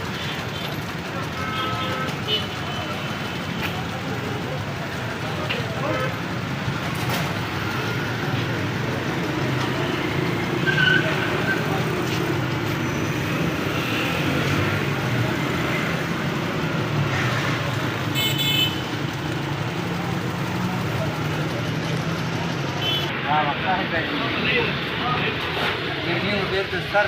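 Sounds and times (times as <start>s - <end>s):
traffic engines running: 0.0s - 27.0s.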